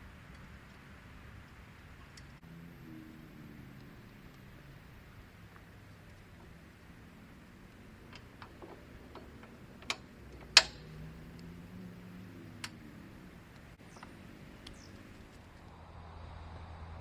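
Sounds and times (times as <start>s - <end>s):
sharp clicks and knocks: 1.4s - 15.6s.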